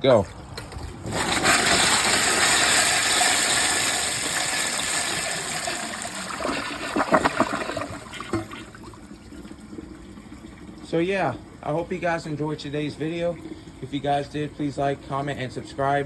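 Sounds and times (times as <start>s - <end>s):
toilet flushing: 0.9s - 16.0s
toilet gurgles: 0.9s - 16.0s.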